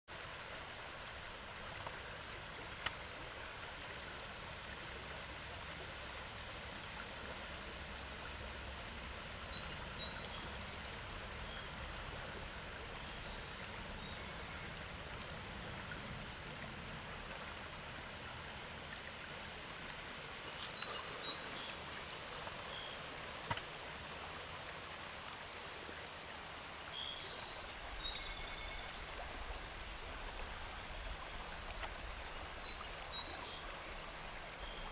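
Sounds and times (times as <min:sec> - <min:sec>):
river flowing over rocks: 0:00.1 - 0:34.9.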